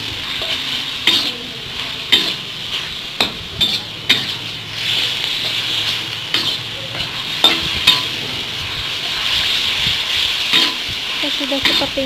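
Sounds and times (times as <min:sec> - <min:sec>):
meat sizzling in oil: 0:00.0 - 0:12.0
metal spatula scraping wok: 0:00.0 - 0:12.0.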